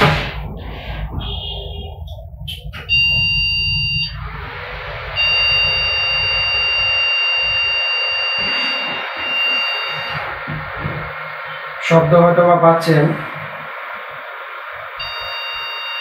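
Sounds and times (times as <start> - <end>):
cooling fan running: 0.0 - 16.0
computer beeps: 2.8 - 16.0.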